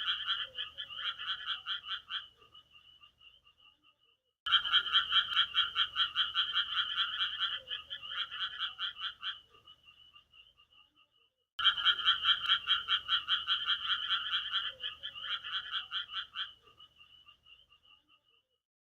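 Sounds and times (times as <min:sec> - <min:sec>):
frogs croaking: 0:00.0 - 0:18.6.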